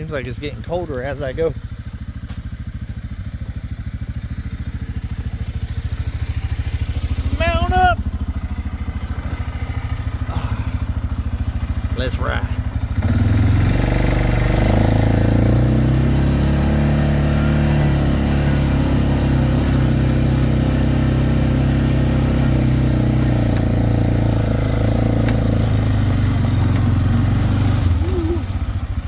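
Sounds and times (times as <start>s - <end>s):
atv engine pulling away: 0.0s - 29.0s.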